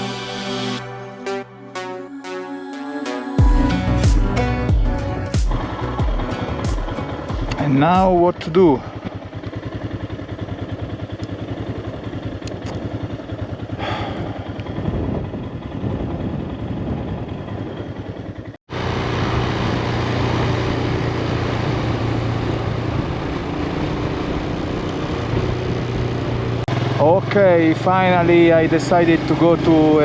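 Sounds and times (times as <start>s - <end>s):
motorcycle engine throbbing: 3.4s - 30.0s.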